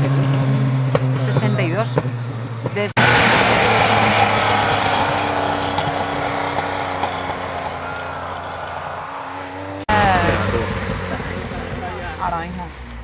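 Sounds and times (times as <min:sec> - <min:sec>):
rally car driving away: 0:00.0 - 0:13.0.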